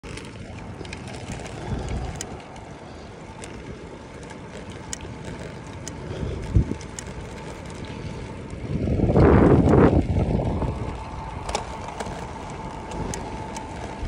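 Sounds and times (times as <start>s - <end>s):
wind noise on microphone: 0.0s - 2.5s, 3.1s - 14.0s
bicycle tyres rolling on concrete: 0.0s - 14.0s.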